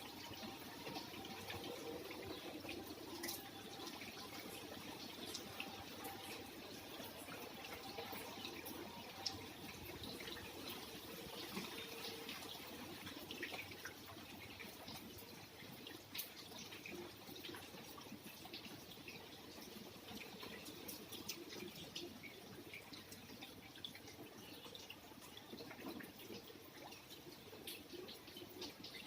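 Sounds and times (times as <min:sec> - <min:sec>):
light rain: 0:00.0 - 0:29.0
scattered drips: 0:00.0 - 0:29.0.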